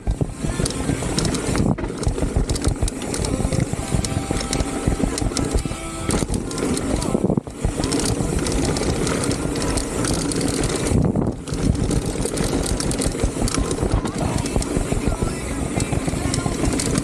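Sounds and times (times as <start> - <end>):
bike clattering over trail: 0.0 - 17.0
wind on microphone: 0.0 - 17.0.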